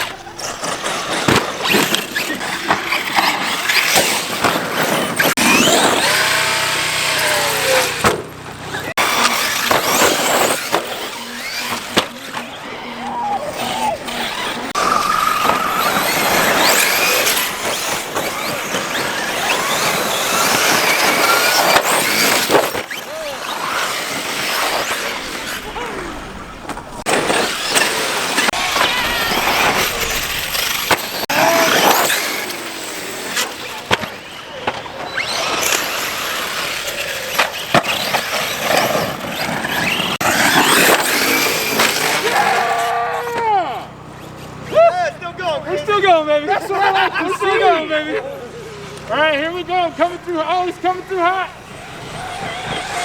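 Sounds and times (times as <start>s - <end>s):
electric motor whining: 0.0s - 43.4s, 48.4s - 53.0s
tyres running over dirt: 0.0s - 53.0s.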